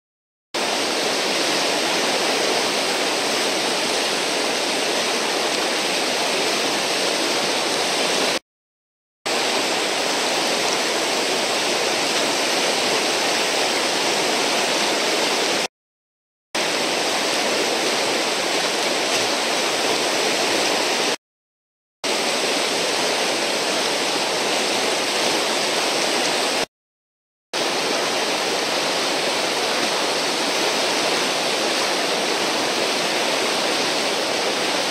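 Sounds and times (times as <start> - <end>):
whitewater rushing: 0.6 - 8.4, 9.3 - 15.7, 16.6 - 21.2, 22.1 - 26.7, 27.6 - 34.9.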